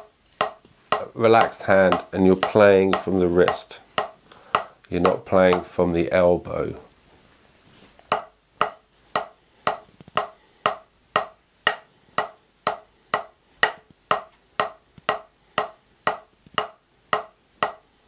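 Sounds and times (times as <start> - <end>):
drumsticks striking practice pad: 0.0 - 5.7, 8.1 - 17.9.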